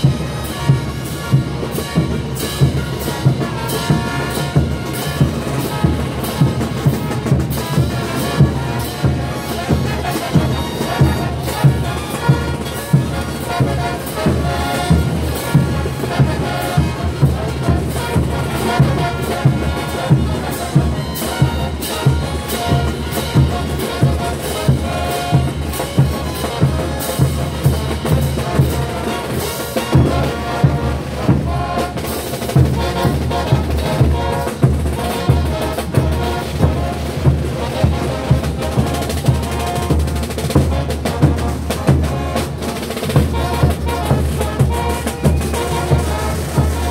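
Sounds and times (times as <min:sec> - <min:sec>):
brass band playing: 0:00.0 - 0:46.9
drum and cymbal hits: 0:00.0 - 0:46.9.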